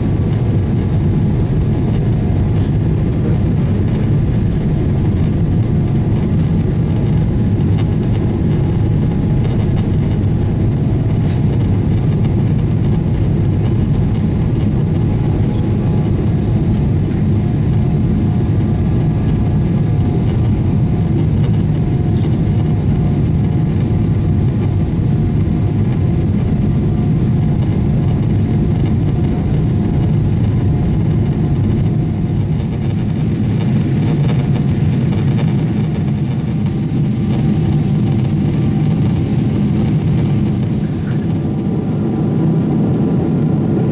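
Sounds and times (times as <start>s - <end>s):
aircraft cabin engine roar: 0.0s - 43.9s.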